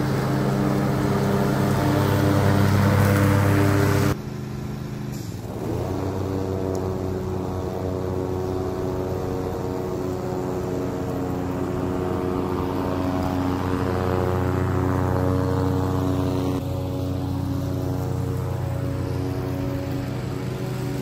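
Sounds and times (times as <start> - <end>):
lawn mower engine passing: 0.0 - 21.0.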